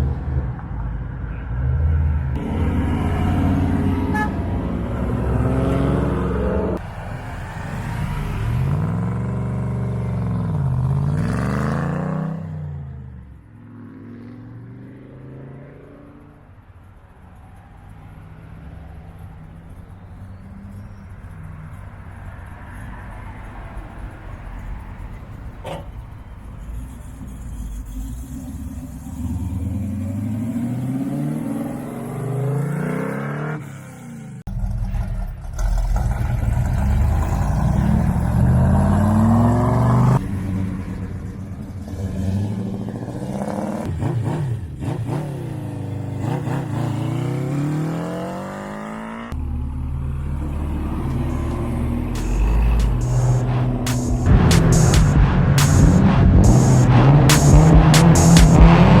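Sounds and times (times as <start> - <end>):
car engines accelerating hard: 1.7 - 16.4, 26.4 - 59.0.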